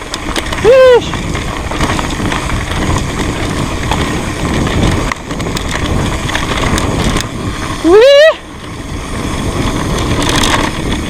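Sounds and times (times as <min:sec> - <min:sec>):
bike rattling clicks: 0:00.0 - 0:11.0
bike tyres rumbling on dirt: 0:00.0 - 0:11.0
wind on microphone: 0:00.0 - 0:11.0.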